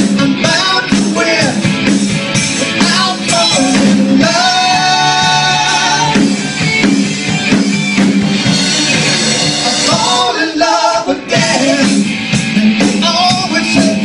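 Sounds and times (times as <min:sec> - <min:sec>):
band playing: 0:00.0 - 0:14.0
steady low bass line: 0:00.0 - 0:14.0.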